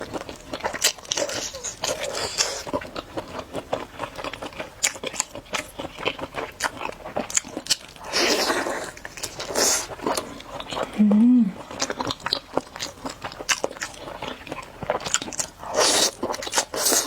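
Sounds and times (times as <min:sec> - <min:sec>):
wet chewing clicks: 0:00.0 - 0:11.0, 0:11.6 - 0:17.0
crisp crunches of chewing: 0:00.0 - 0:17.0.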